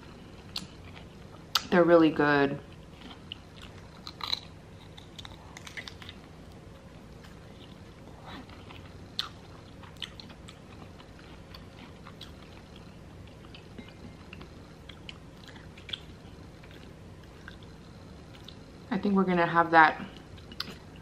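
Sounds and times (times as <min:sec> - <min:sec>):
faint steady hum: 0:00.0 - 0:21.0
person chewing food: 0:00.3 - 0:01.7, 0:02.7 - 0:18.7, 0:20.2 - 0:21.0.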